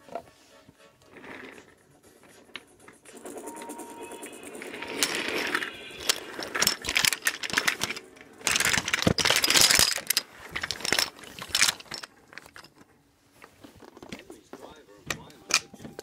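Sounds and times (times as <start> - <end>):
toy trains clattering and colliding: 1.1 - 3.3, 4.5 - 14.4, 15.1 - 16.0.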